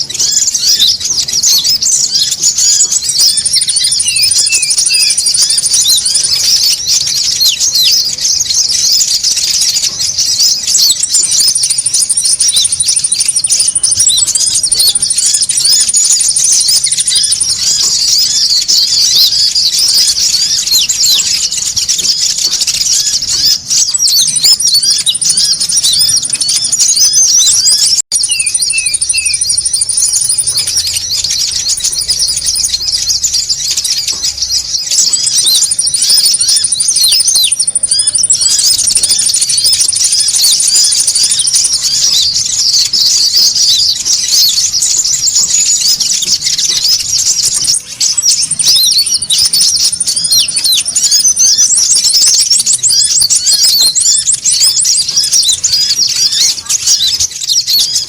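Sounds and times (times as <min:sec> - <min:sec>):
birds twittering: 0:00.0 - 0:58.0
high bird trills: 0:00.0 - 0:58.0.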